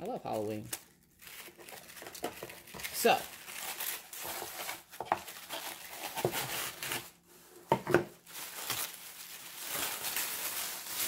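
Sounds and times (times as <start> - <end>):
paper and plastic crinkling: 0.3 - 11.0.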